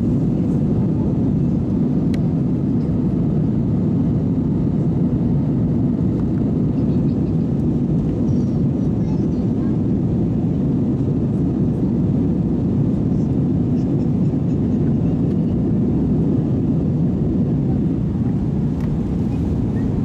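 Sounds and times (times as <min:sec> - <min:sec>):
aircraft cabin engine roar: 0:00.0 - 0:20.0.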